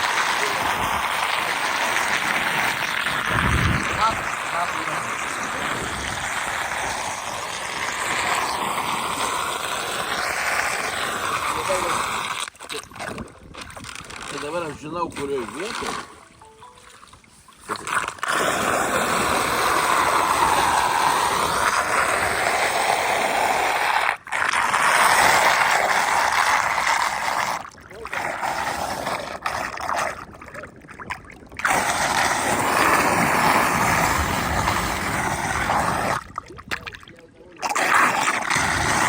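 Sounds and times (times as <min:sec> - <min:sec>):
water rushing into storm drain: 0:00.0 - 0:39.0.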